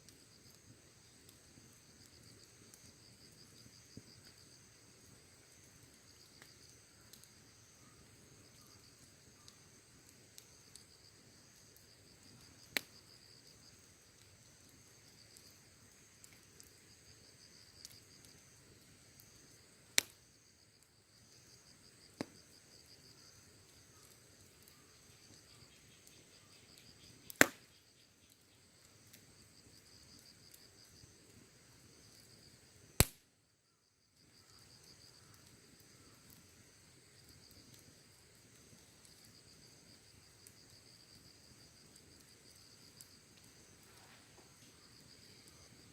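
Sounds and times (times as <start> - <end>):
fire popping: 0.0 - 33.3, 34.2 - 45.9
bonfire burning: 0.0 - 45.9
insects chirring: 0.0 - 45.9.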